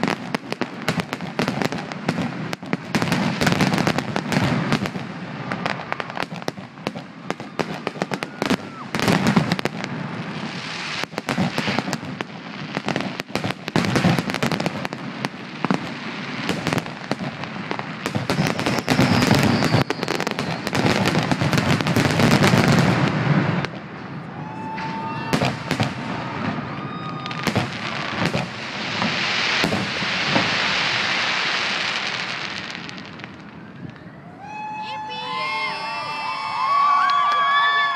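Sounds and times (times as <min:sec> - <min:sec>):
fireworks bangs and crackling: 0:00.0 - 0:37.9.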